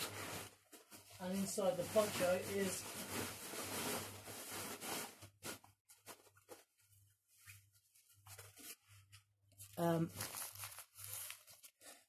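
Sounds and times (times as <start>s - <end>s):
plastic sheeting rustling: 0.0s - 12.0s.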